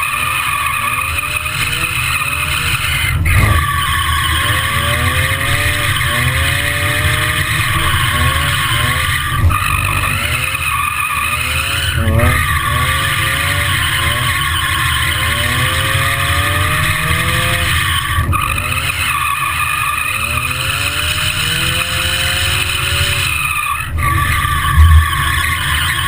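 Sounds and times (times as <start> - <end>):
car engine revving: 0.0 - 26.0
tyres skidding on tarmac: 0.0 - 26.0.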